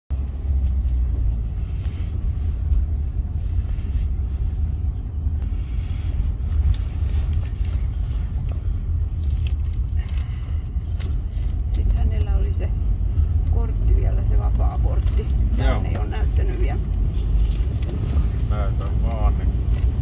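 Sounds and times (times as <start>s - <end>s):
car interior rumble: 0.1s - 20.0s.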